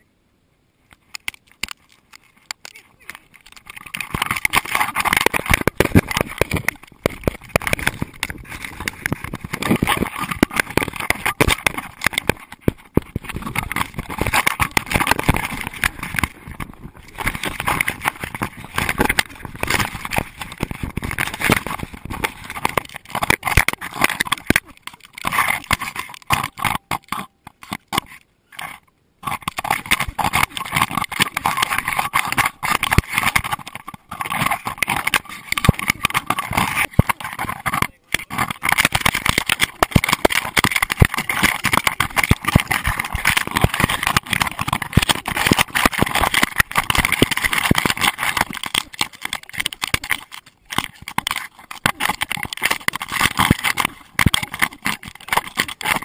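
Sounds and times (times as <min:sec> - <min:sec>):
camera housing knocking and rattling: 0:01.1 - 0:56.0.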